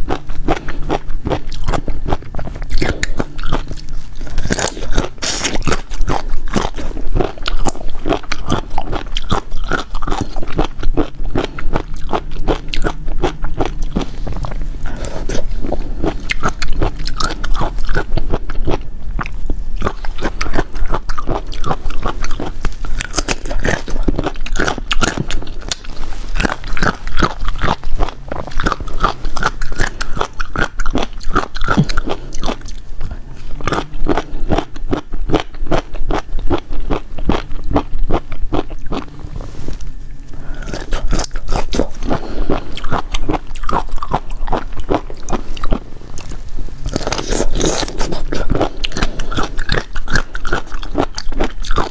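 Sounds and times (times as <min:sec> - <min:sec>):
chewing and crunching food: 0:00.0 - 0:51.9.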